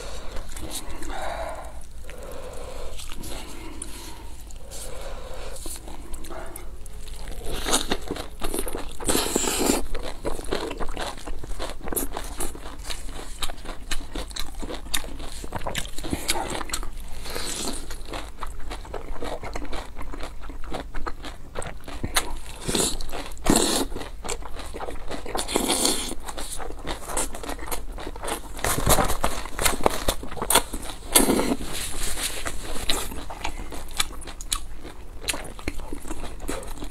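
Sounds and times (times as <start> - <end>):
wet chewing: 0.0 - 36.9
crunchy bites: 0.1 - 31.7.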